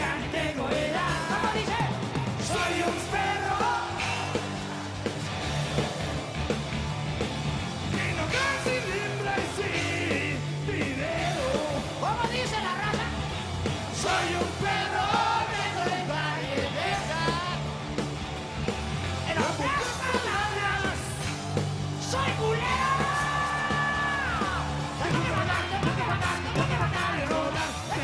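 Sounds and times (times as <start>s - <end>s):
man singing and shouting: 0.0s - 4.8s, 7.8s - 13.3s, 13.9s - 17.7s, 19.2s - 28.0s
bass guitar: 0.0s - 28.0s
drum kit: 0.0s - 28.0s
electric guitar: 0.0s - 28.0s.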